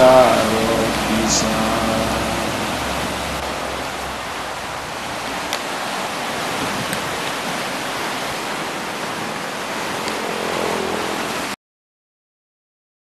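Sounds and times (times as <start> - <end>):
waves breaking on beach: 0.0 - 11.6.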